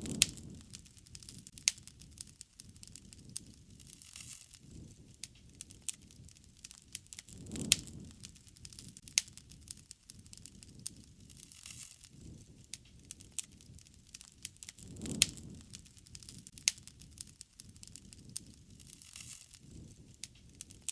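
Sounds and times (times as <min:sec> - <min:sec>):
sharp pops of fire: 0:00.0 - 0:20.9
soft rustle of flames: 0:00.0 - 0:20.9
wood fire crackling: 0:00.0 - 0:20.9.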